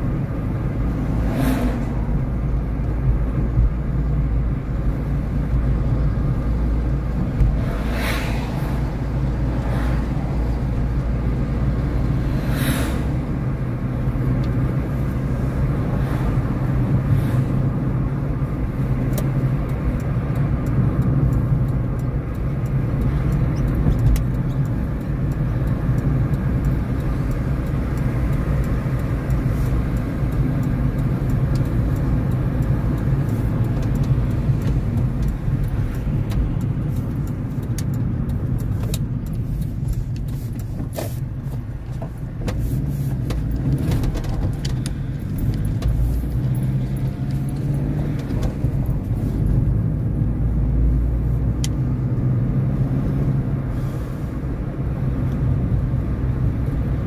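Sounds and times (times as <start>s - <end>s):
car road and engine noise: 0.0s - 57.0s
passing vehicles whooshing: 0.0s - 57.0s.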